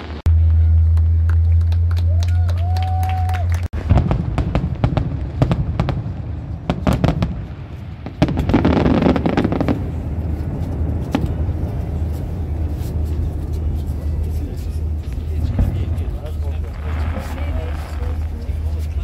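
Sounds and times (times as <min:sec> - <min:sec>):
fireworks crackling: 0:00.0 - 0:01.9, 0:03.8 - 0:19.0
fireworks bangs and pops: 0:03.8 - 0:19.0.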